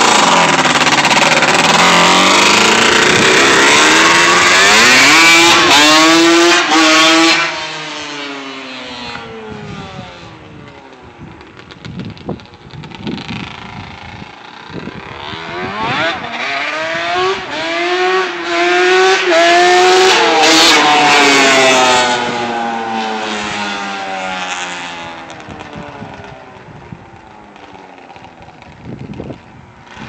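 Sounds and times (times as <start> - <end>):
two-stroke quad engine passing: 0.0 - 30.0.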